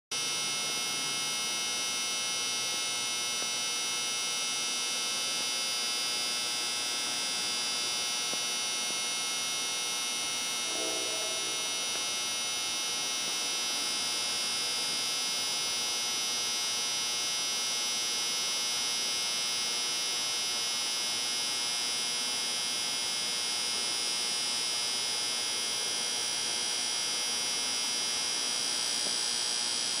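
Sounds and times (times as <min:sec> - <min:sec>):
high-pitched electrical buzz: 0:00.2 - 0:25.0.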